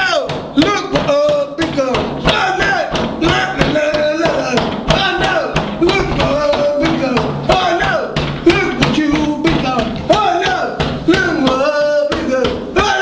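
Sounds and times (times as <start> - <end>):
music with fast steady beat: 0.0 - 13.0.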